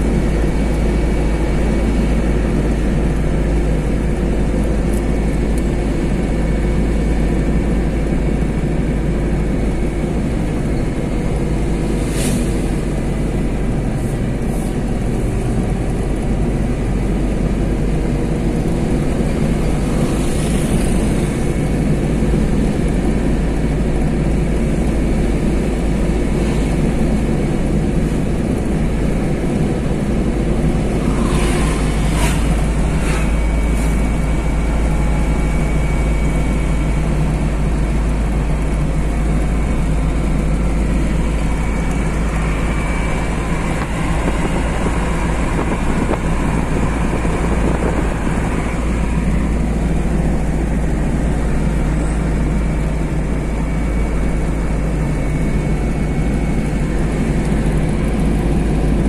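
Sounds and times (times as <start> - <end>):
vehicle engine and tyres rumbling: 0.0 - 59.0.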